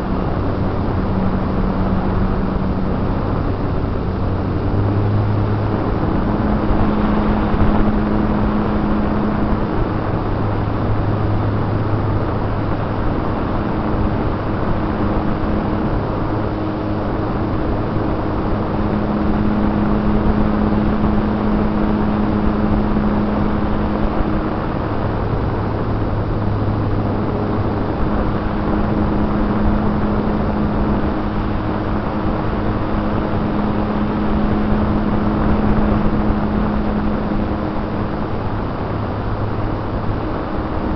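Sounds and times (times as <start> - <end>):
model plane motor hum: 0.0 - 40.9
wind rushing over microphone: 0.0 - 40.9.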